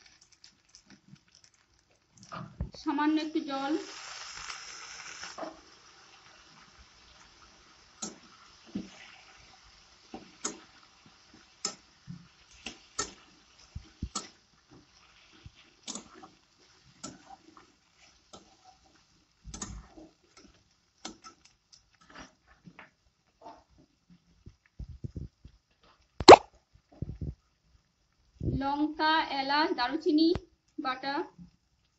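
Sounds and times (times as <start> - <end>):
faint sizzle: 0.0 - 31.9.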